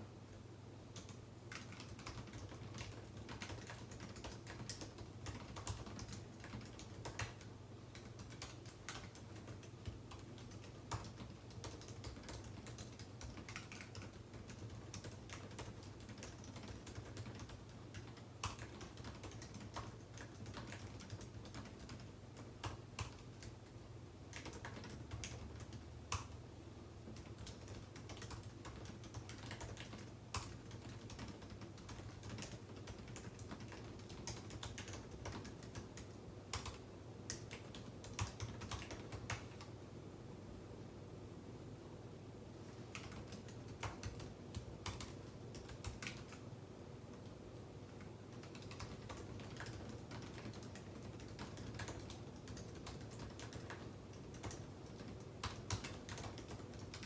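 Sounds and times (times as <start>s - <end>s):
typing on a keyboard: 0.9s - 39.8s, 42.8s - 46.5s, 47.1s - 57.0s.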